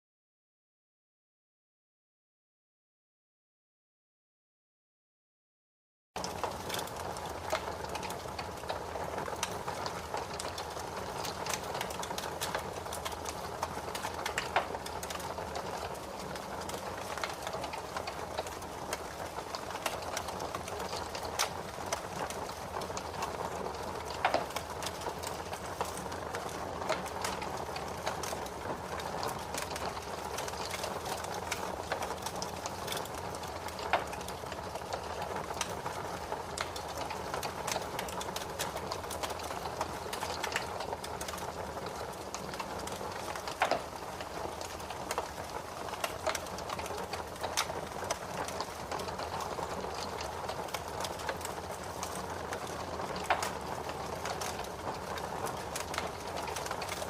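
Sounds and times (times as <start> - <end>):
fire crackling and popping: 6.2 - 57.0.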